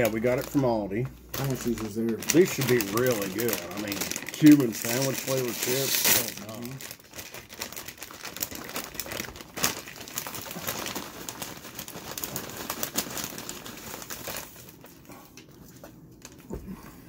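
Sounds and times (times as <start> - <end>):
chip bag crinkling: 0.0 - 16.4.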